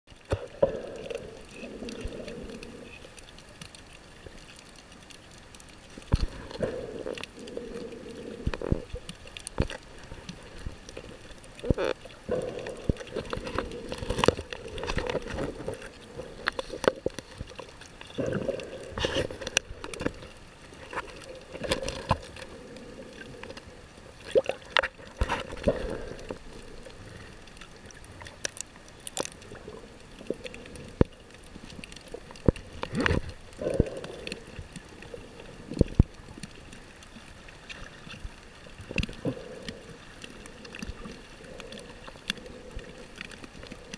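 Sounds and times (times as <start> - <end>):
muffled underwater sloshing: 0.1 - 43.9.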